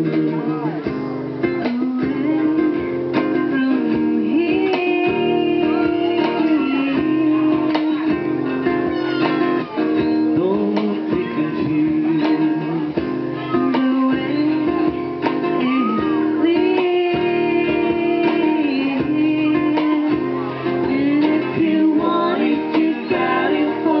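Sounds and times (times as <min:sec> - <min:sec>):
acoustic guitar strumming: 0:00.0 - 0:24.0
person singing: 0:00.0 - 0:24.0.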